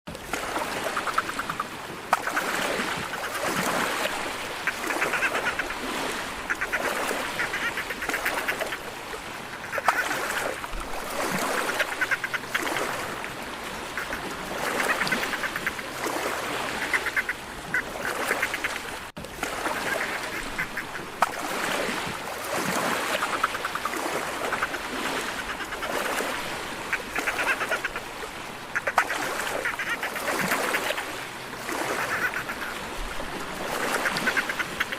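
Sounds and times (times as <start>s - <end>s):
dolphins calling: 0.5s - 21.9s, 22.5s - 34.9s.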